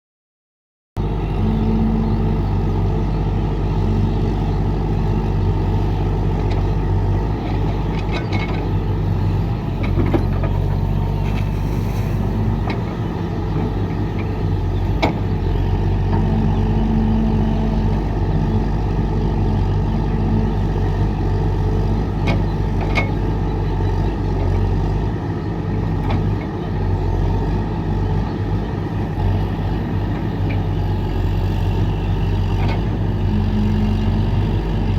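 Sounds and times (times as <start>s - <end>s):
excavator diesel engine running: 1.0s - 34.9s.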